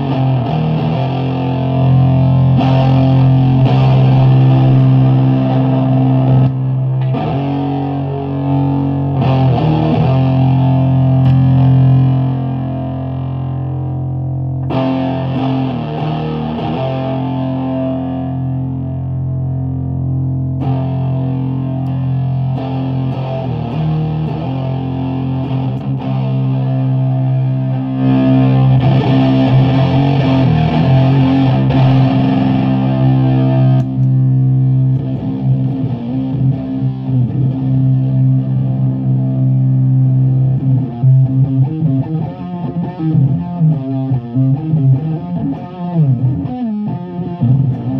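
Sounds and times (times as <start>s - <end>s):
fuzz-distorted electric guitar drone: 0.0s - 47.9s.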